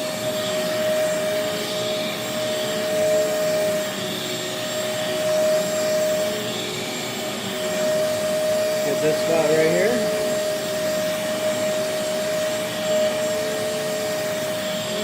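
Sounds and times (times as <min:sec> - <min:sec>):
carpet cleaner suction motor whine: 0:00.0 - 0:15.0.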